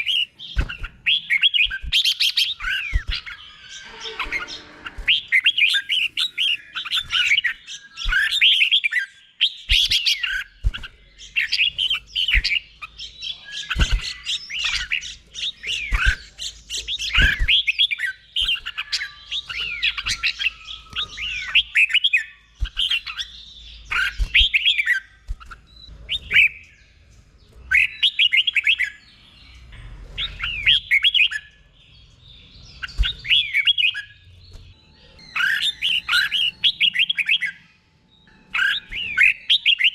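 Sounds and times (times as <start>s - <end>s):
bulbul singing warbled phrases: 0.0s - 26.8s, 30.2s - 37.7s.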